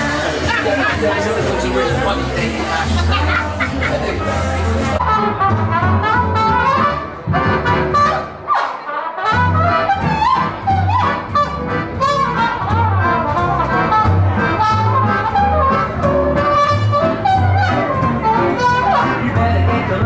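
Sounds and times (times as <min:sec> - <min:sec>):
steady bass line: 0:00.0 - 0:08.5, 0:09.3 - 0:20.0
brass horns: 0:00.0 - 0:20.0
swing band playing jazz: 0:00.0 - 0:20.0.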